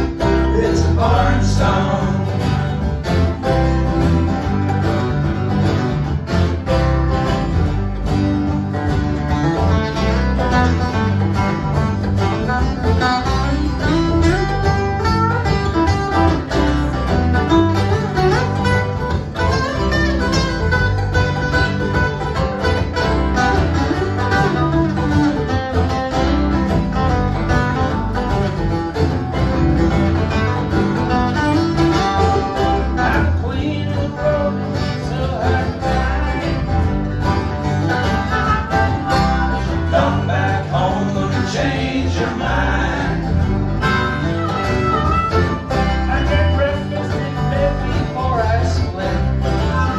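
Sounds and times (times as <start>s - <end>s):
acoustic guitars picked and strummed: 0.0s - 49.9s
bass line: 0.0s - 49.9s.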